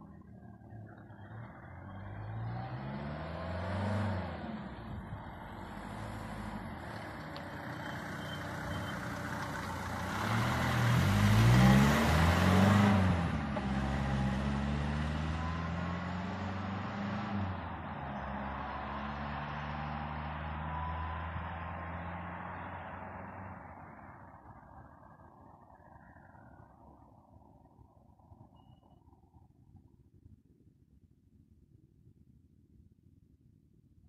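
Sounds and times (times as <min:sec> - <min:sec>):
diesel car engine accelerating: 0:00.0 - 0:27.5.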